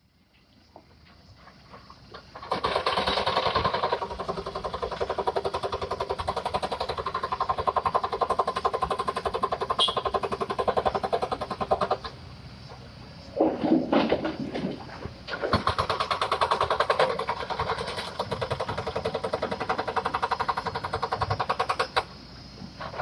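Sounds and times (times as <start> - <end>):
excavator mechanical clatter: 0.2 - 23.0.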